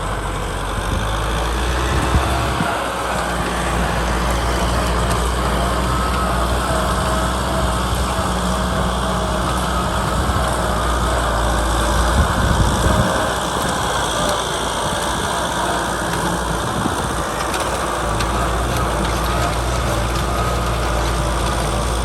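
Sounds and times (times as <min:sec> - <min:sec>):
tractor diesel engine rumble: 0:00.0 - 0:22.0.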